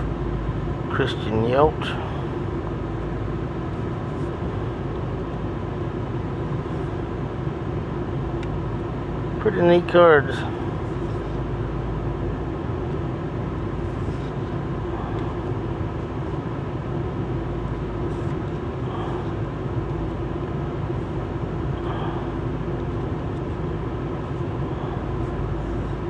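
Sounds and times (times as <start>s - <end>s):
car cabin hum: 0.0s - 26.0s.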